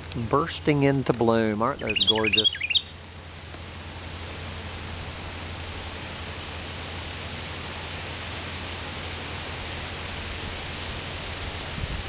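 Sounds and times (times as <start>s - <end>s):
breeze rushing through leafy branches: 0.0s - 12.0s.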